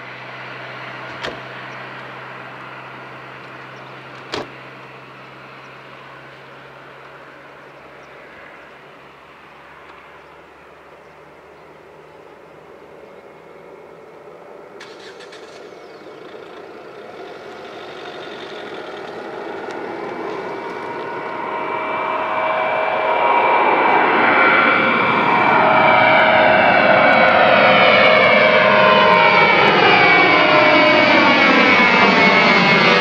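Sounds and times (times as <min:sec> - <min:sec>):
jet engine whine: 0:00.0 - 0:33.0
jet engines at takeoff: 0:00.0 - 0:33.0.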